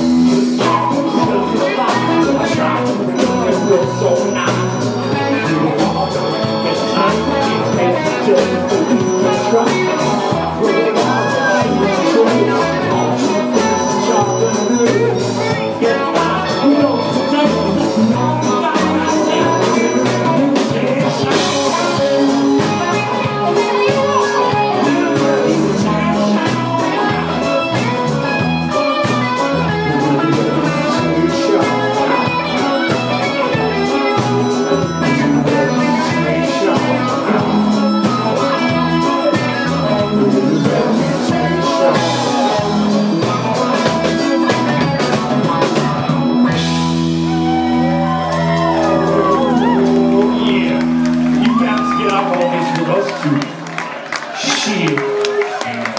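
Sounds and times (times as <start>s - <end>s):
man singing lead: 0.0s - 53.6s, 54.3s - 55.9s
drum kit: 0.0s - 55.9s
electric guitars: 0.0s - 55.9s.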